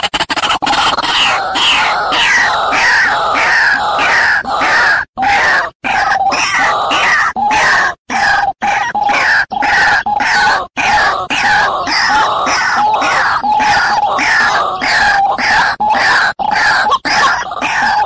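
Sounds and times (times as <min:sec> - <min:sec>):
waterhen harsh croaking calls: 0:00.0 - 0:18.0.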